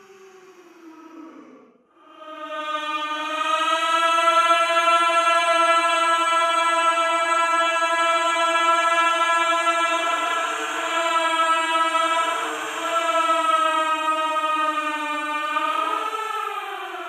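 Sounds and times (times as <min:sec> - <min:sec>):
ghostly wailing voice: 0:00.0 - 0:17.0.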